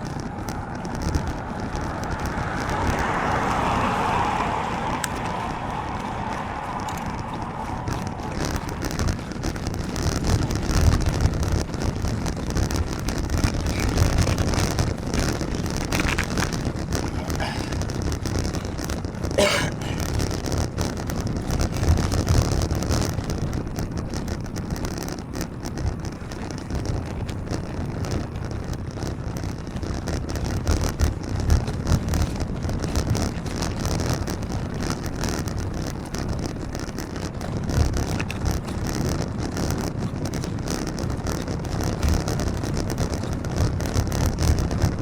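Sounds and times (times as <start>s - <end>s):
road and traffic hiss: 0.0s - 45.0s
wind rumbling on microphone: 0.0s - 45.0s.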